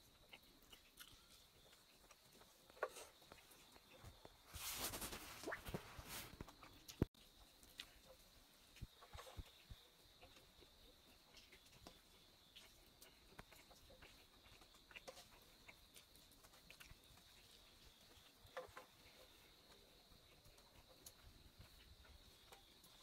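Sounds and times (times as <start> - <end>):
chewing: 0.0 - 23.0
faint high-pitched hiss: 0.0 - 23.0.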